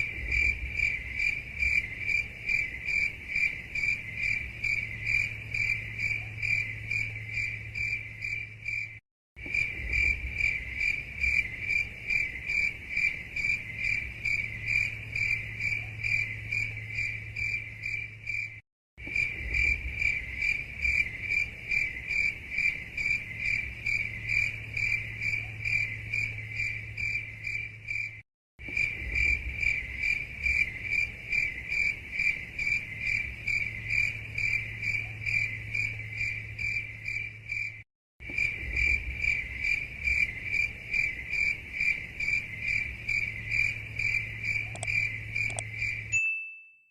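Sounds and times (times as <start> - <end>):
cricket chirping: 0.0 - 46.2.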